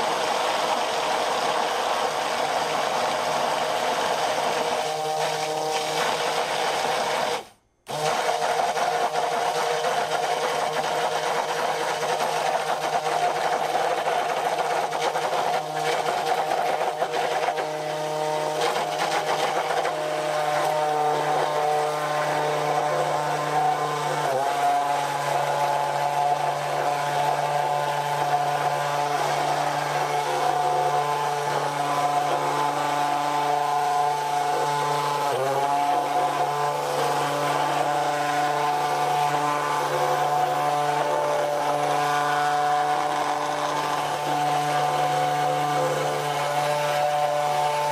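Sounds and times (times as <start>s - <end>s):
hand blender motor running: 0.0s - 47.9s.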